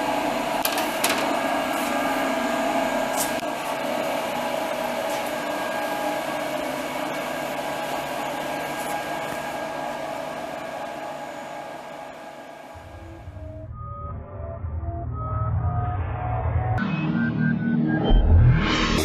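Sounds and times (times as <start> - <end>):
fan tones: 0.0 - 17.6
whirring machine hum: 0.0 - 19.0.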